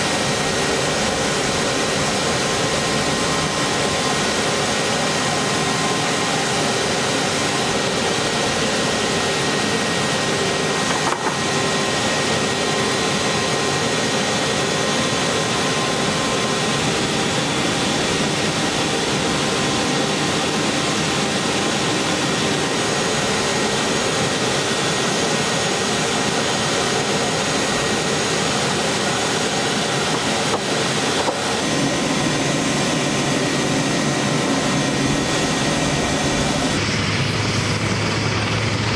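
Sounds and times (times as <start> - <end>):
helicopter turbine whining: 0.0 - 38.9.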